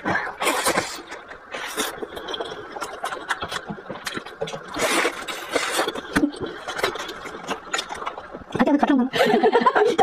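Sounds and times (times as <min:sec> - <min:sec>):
chewing and lip-smacking: 0:00.0 - 0:08.6.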